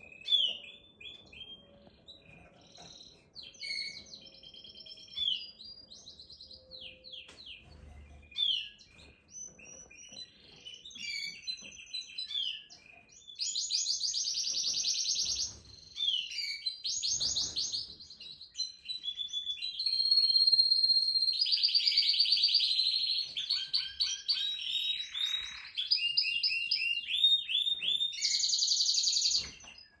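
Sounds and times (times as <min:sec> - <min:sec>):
canary singing: 0:00.0 - 0:30.0.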